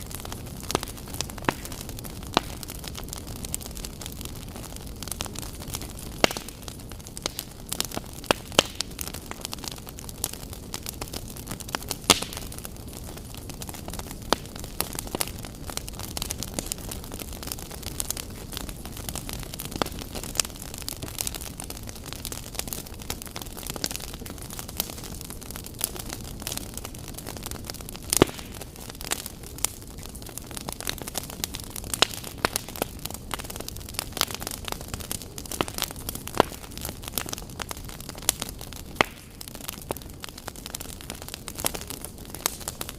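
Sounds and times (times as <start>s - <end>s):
sharp pops from fire: 0.0s - 42.9s
wood fire crackling: 0.0s - 42.9s.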